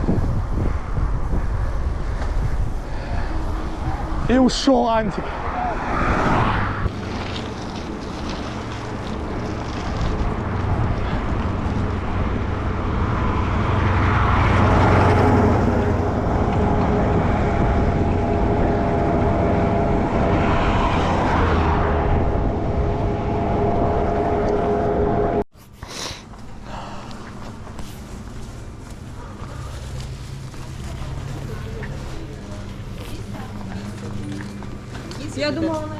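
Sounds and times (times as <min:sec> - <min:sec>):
vehicles passing: 0:00.0 - 0:25.5, 0:26.2 - 0:35.9
steady low traffic rumble: 0:00.0 - 0:35.9.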